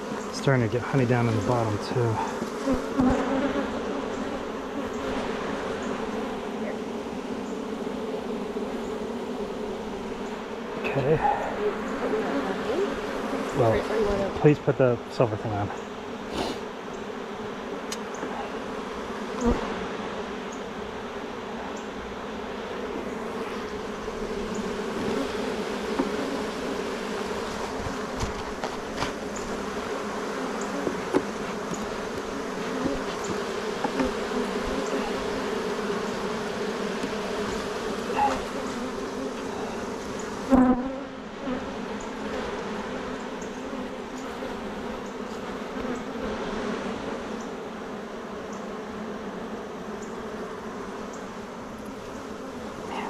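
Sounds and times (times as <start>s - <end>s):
bees buzzing: 0.0s - 53.0s.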